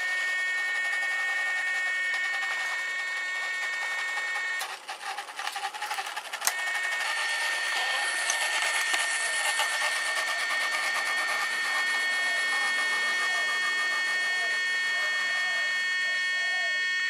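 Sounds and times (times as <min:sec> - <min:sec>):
electric warning buzzer: 0:00.0 - 0:17.0.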